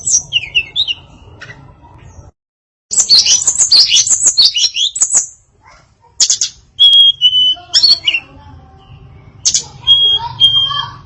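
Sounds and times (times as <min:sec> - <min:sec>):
songbird chirping and whistling: 0:00.0 - 0:02.3, 0:02.9 - 0:05.4, 0:06.2 - 0:11.0.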